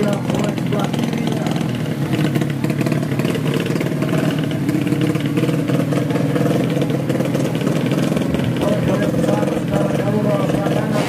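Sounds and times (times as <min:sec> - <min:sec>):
motorcycle engine fast idle: 0:00.0 - 0:11.0.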